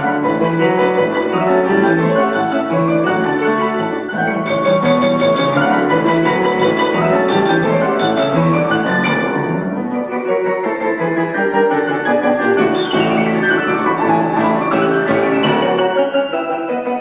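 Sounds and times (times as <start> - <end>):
classical piano piece: 0.0 - 17.0.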